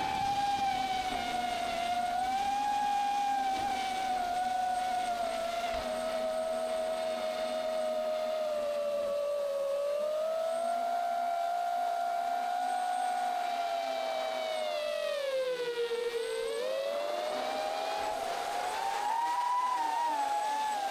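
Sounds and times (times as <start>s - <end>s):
quadcopter motors whining: 0.0s - 20.9s.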